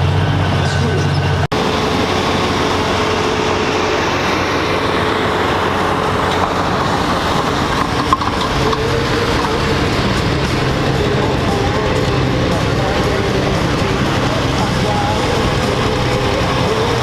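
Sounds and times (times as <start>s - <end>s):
pulling vehicle engine running hard: 0.0s - 17.0s.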